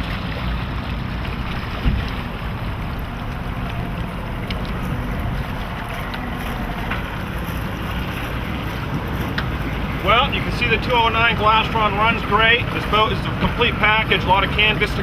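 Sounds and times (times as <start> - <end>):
boat engine running: 0.0 - 15.0
water rushing past hull: 0.0 - 15.0
wind buffeting microphone: 0.0 - 15.0.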